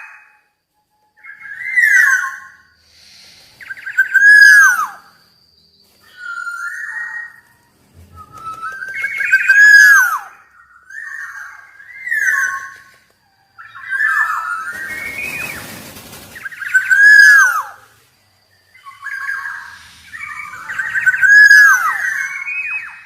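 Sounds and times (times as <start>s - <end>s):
oriole fluty whistled song: 0.0s - 23.0s.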